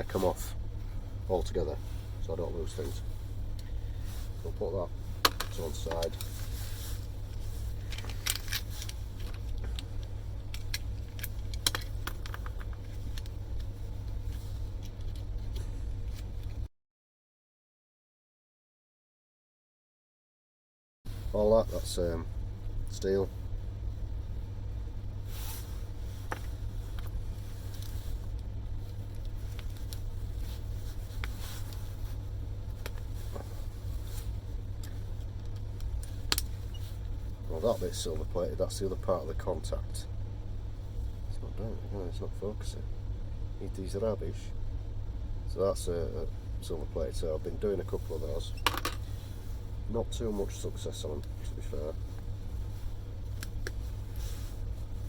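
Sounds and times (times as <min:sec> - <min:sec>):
steady low hum: 0:00.0 - 0:16.7, 0:21.1 - 0:55.0.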